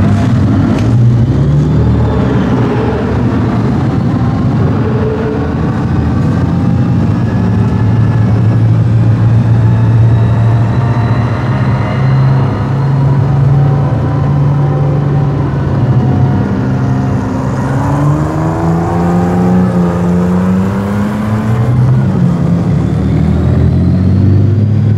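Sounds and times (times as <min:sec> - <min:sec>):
high whine rising in pitch: 0:00.0 - 0:24.9
tracked vehicle engine running: 0:00.0 - 0:24.9.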